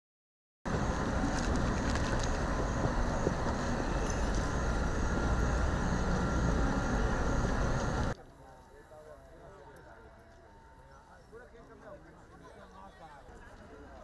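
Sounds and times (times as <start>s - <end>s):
low engine rumble: 0.7s - 14.0s.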